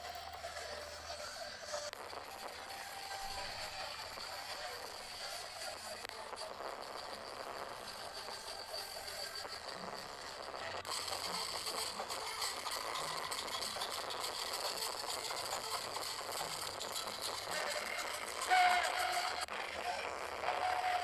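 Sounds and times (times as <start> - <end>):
crowd noise: 0.0 - 21.0.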